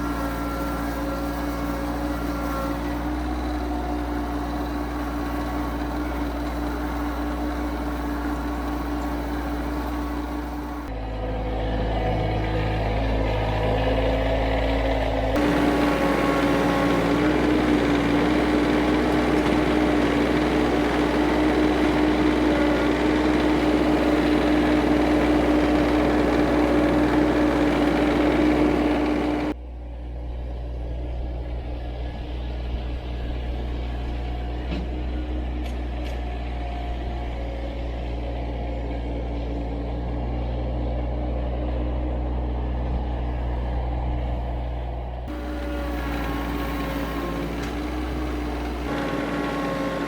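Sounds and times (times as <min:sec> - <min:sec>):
tractor engine whining: 0:00.0 - 0:39.8, 0:41.7 - 0:50.0.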